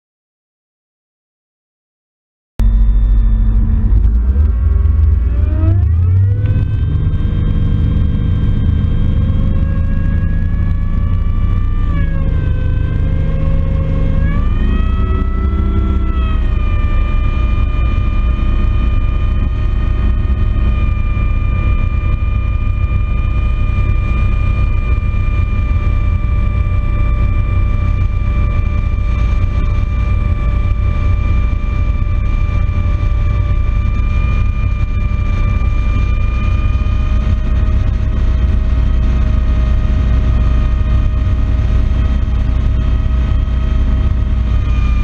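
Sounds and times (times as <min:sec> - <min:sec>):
outboard motor running: 0:02.6 - 0:45.0.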